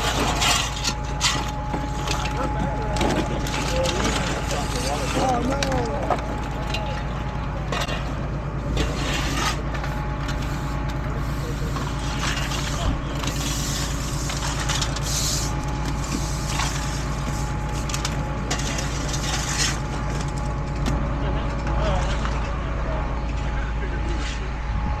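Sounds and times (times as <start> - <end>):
truck engine idling: 0.0 - 24.9.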